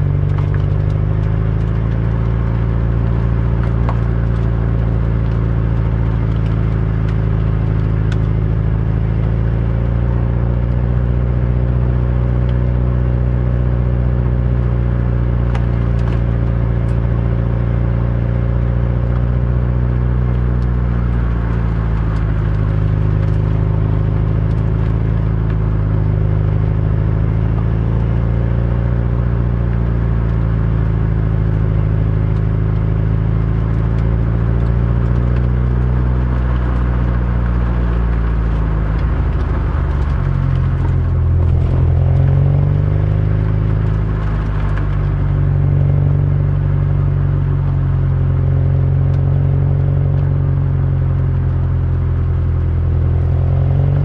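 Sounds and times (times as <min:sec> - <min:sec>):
car engine at low revs: 0:00.0 - 0:54.0
road noise: 0:00.0 - 0:54.0.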